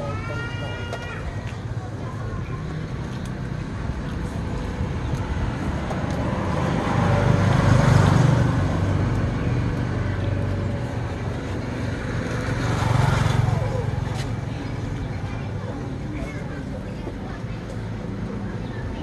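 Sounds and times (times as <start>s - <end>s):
traffic rumble: 0.0s - 19.0s
vehicle passing: 1.7s - 19.0s.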